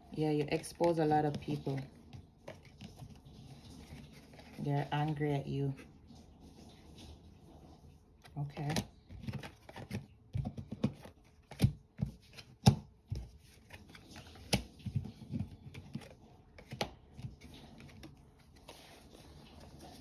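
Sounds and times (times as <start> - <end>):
cards shuffled and dealt: 0.2 - 5.9, 8.2 - 20.0.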